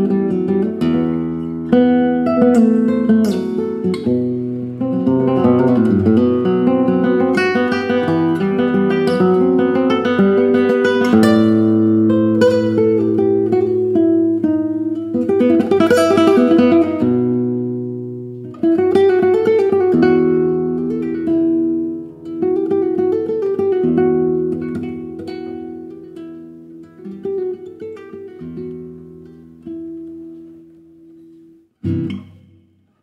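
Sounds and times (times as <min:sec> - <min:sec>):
classical guitar playing: 0:00.0 - 0:33.0.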